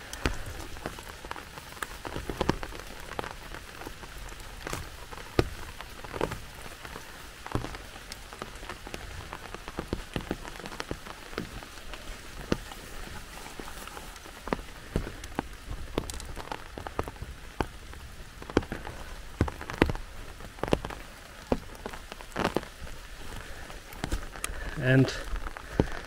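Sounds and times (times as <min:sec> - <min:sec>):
raindrops ticking close by: 0:00.0 - 0:26.0
steady rain: 0:00.0 - 0:26.0.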